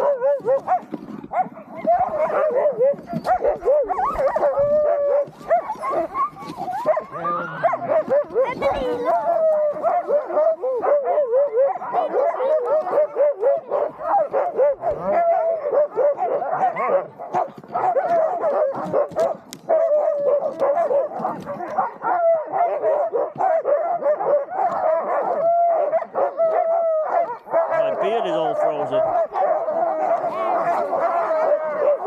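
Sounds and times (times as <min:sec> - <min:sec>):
huskies barking yipping and whining: 0:00.0 - 0:32.0.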